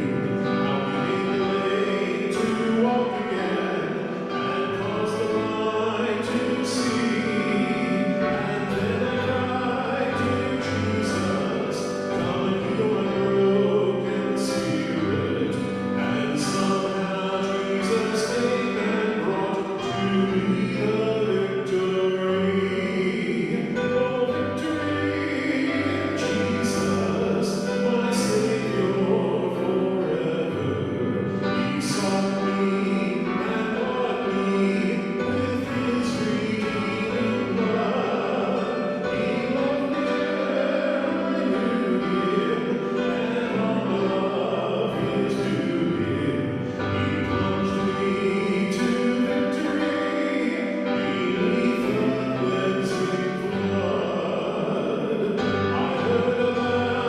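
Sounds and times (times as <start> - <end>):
choir singing a hymn: 0.0 - 57.0
instrumental accompaniment: 0.0 - 57.0.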